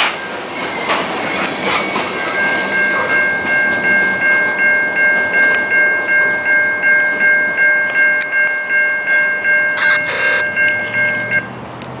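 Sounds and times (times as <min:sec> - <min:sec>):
crossing warning bell ringing: 0:00.0 - 0:11.7
train passing: 0:00.0 - 0:12.0.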